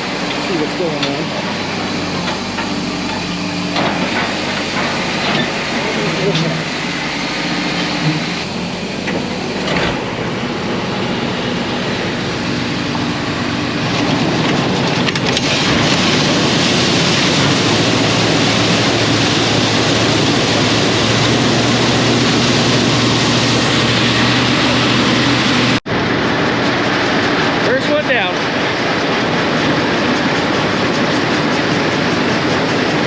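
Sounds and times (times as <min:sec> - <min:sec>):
farm machinery engine hum: 0:00.0 - 0:33.0.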